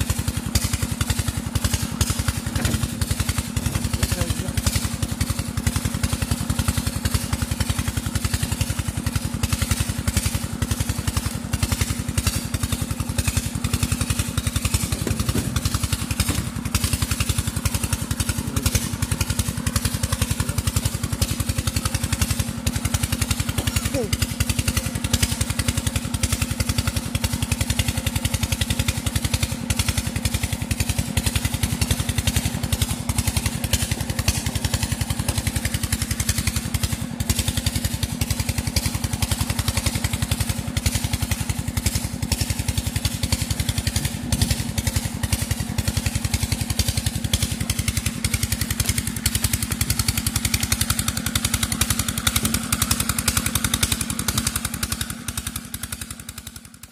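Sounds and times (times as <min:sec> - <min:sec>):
small engine chugging: 0:00.0 - 0:56.9.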